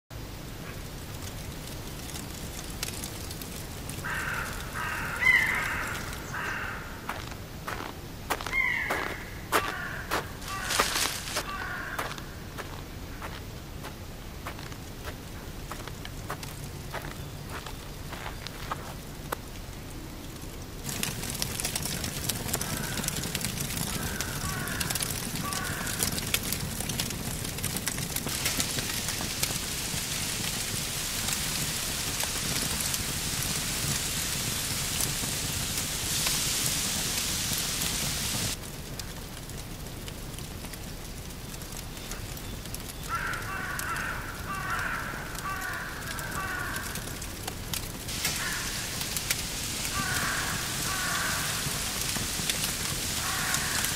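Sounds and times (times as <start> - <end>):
campfire crackling and popping: 0.2 - 53.9.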